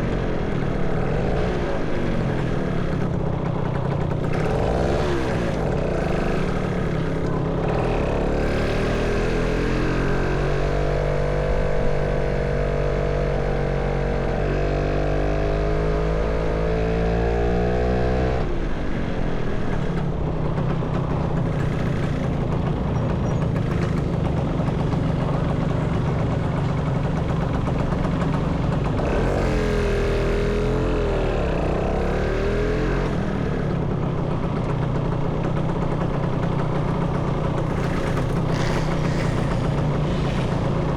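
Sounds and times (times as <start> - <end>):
motorcycle engine: 0.0 - 40.9
road noise: 0.0 - 40.9.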